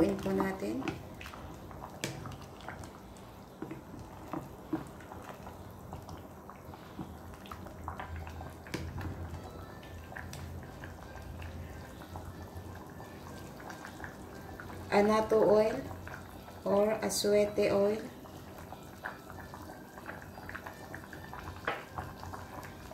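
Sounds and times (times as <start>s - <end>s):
wet stirring and bubbling: 0.0s - 22.9s.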